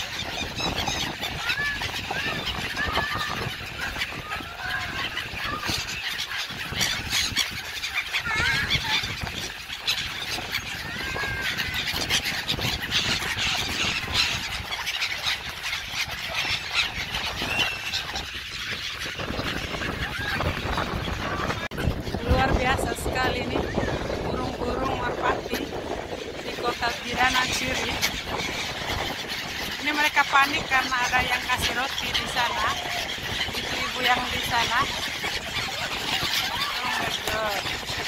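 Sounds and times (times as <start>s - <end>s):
gulls calling: 0.0s - 38.0s
wind rumble on microphone: 0.0s - 38.0s.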